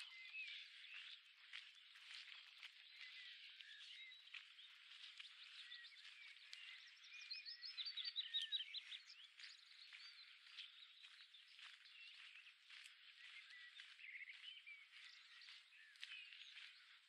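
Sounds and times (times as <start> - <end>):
bird singing repeated notes: 0.0 - 17.0
small birds chirping: 0.0 - 17.0.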